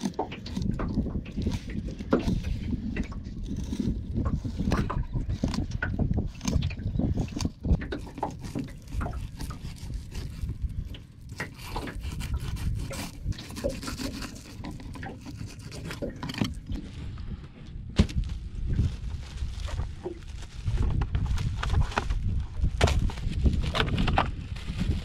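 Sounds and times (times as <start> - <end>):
rubbing and scraping handling noises: 0.0 - 25.0
steady low rumble: 0.0 - 25.0.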